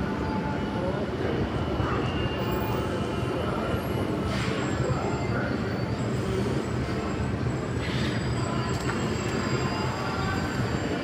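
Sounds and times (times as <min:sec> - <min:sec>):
subway train rumbling overhead: 0:00.0 - 0:11.0.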